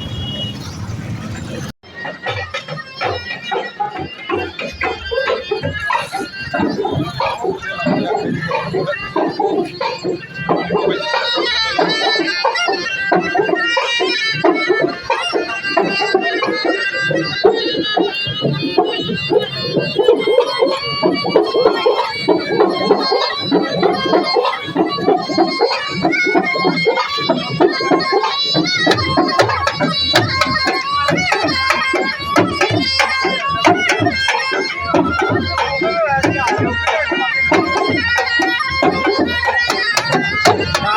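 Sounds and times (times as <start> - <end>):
percussion beat: 1.8 - 40.9
tabla drumming: 1.8 - 40.9
sustained melody line: 1.9 - 40.9.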